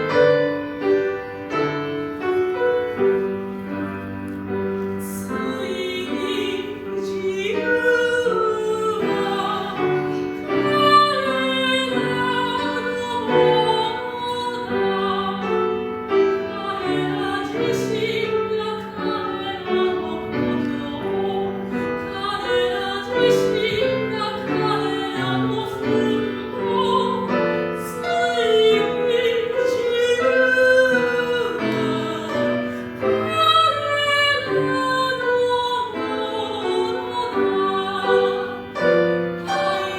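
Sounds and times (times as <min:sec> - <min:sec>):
piano accompaniment: 0:00.0 - 0:39.9
soprano singing operatically: 0:05.0 - 0:39.9.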